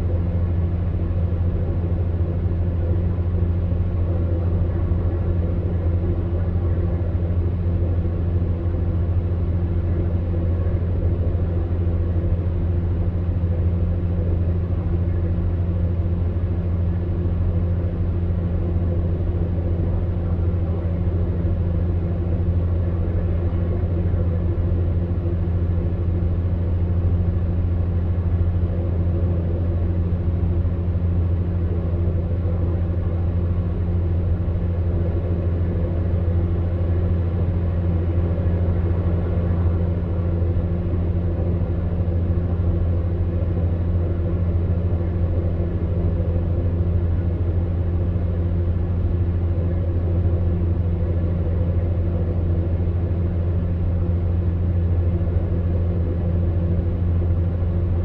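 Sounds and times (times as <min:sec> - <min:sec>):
electric fan heater humming: 0:00.0 - 0:58.0.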